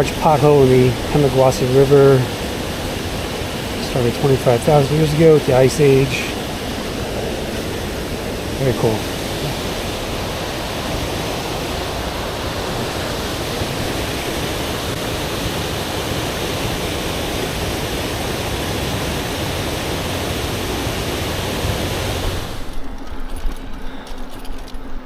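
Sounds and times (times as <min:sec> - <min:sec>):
river water rushing: 0:00.0 - 0:22.9.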